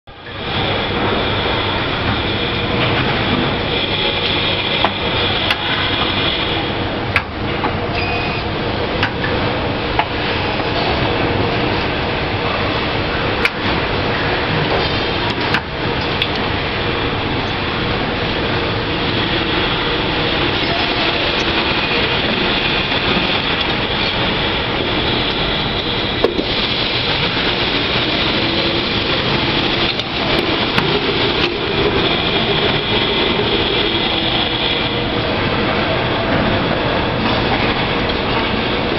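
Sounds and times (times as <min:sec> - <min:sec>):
machinery clatter and hum: 0:00.0 - 0:38.9.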